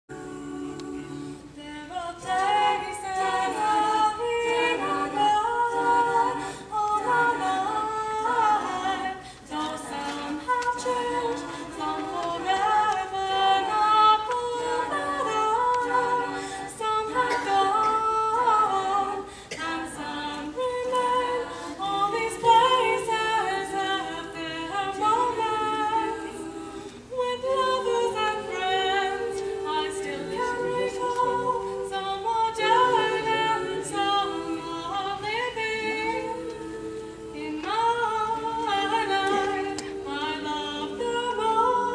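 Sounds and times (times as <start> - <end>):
women's choir singing in harmony: 0.0 - 41.9.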